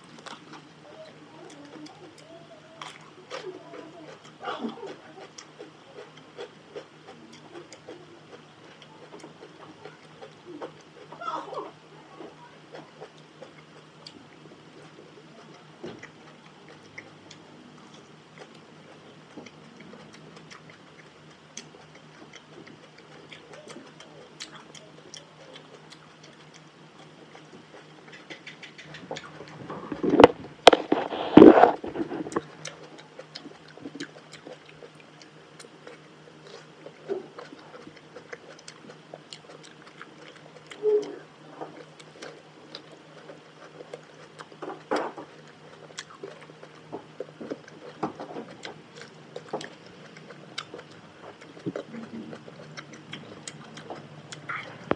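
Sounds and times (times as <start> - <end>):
person biting and chewing tomato: 4.1 - 11.2, 12.7 - 54.9.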